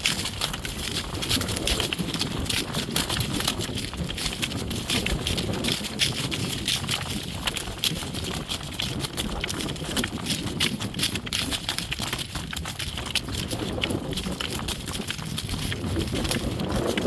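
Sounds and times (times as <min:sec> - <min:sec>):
horse hoofbeats: 0:00.0 - 0:17.0.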